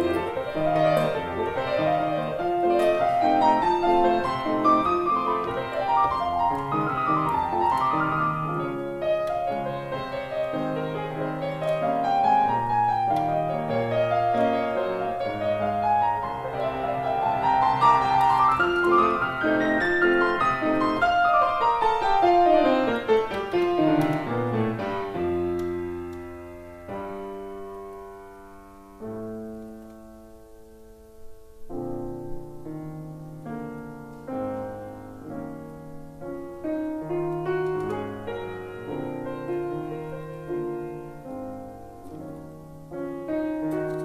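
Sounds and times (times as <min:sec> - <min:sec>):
grand piano playing: 0:00.0 - 0:44.0.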